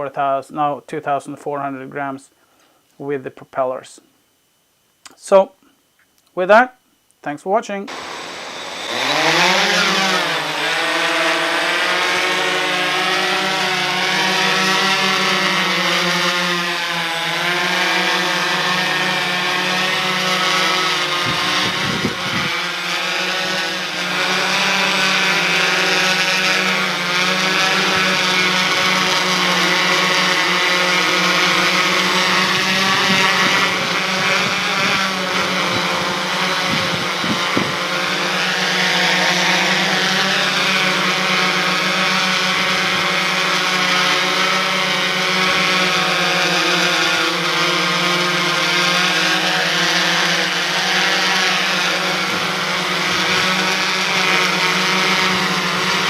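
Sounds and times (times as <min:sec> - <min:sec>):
quadcopter motors whining: 0:07.9 - 0:56.0.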